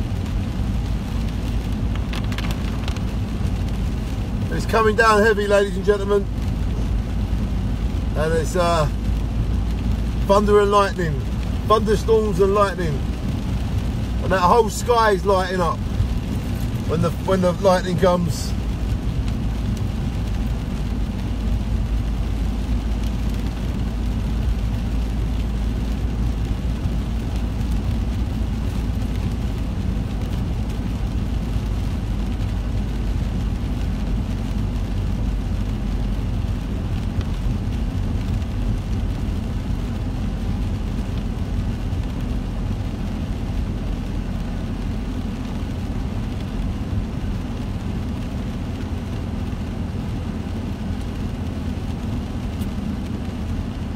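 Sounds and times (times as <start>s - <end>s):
car engine rumble: 0.0s - 53.9s
heavy rain: 0.0s - 53.9s
tyres on wet road: 0.0s - 53.9s.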